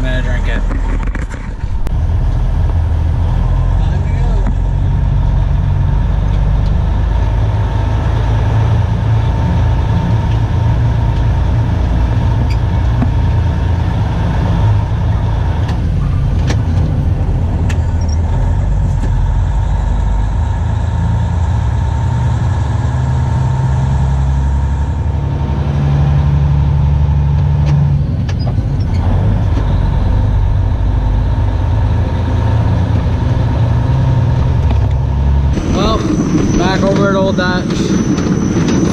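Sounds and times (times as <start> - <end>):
truck diesel engine drone: 0.0 - 38.9.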